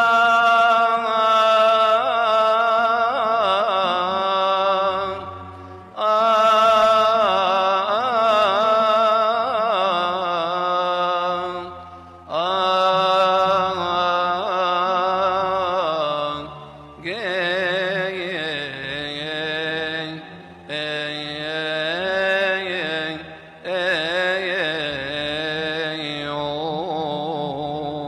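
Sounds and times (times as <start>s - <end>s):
person chanting a hymn: 0.0s - 28.0s.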